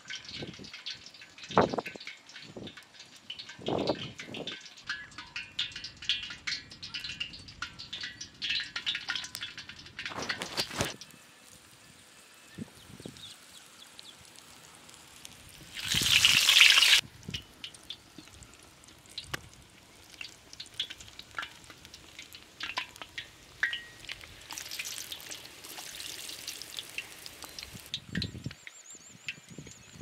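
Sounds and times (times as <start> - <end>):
oil crackling: 0.0 - 28.4
food sizzling in hot oil: 0.0 - 30.0.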